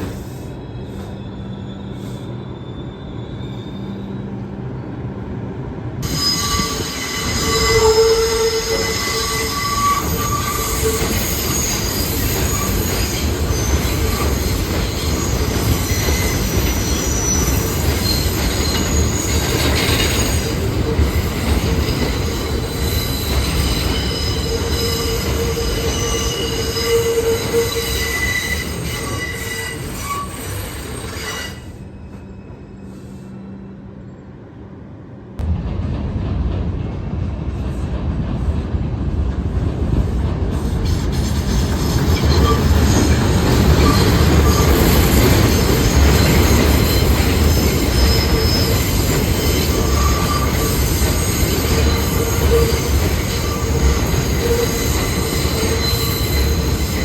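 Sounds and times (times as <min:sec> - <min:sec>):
wheels squealing on rails: 0:00.0 - 0:05.2, 0:06.0 - 0:34.4, 0:39.9 - 0:57.0
subway train rumbling: 0:00.0 - 0:57.0.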